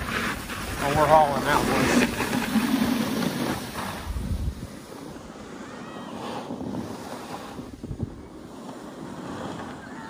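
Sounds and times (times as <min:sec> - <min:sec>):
snowboard scraping over snow: 0:00.0 - 0:10.0
wind buffeting microphone: 0:00.0 - 0:10.0.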